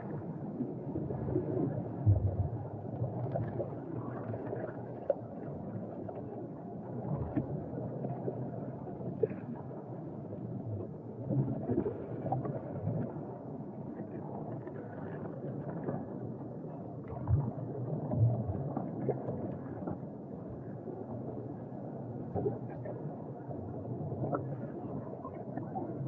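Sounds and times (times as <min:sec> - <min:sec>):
exhaled bubbles gurgling: 0:00.0 - 0:26.0.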